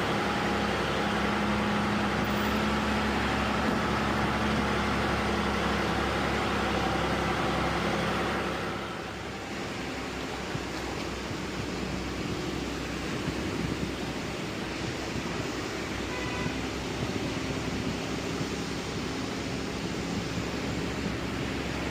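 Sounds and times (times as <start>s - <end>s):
road noise: 0.0s - 21.9s
truck engine running: 0.0s - 21.9s.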